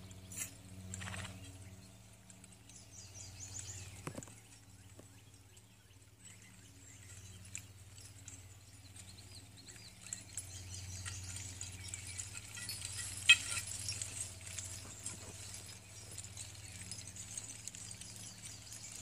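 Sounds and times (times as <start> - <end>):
harness chains jingling: 0.0 - 19.0
horse hooves walking: 0.0 - 19.0.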